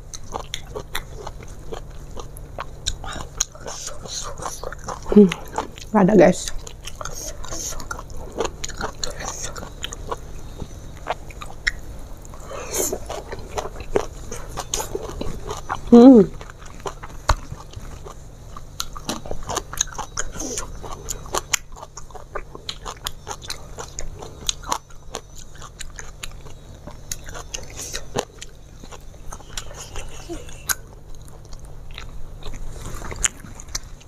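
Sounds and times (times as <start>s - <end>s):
person chewing food: 0.0s - 34.0s.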